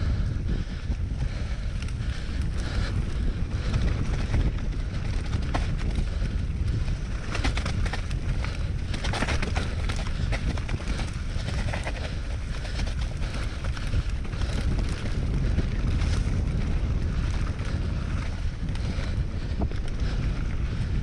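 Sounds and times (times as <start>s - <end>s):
bike clicks and rattles: 0.0s - 21.0s
wind buffeting microphone: 0.0s - 21.0s.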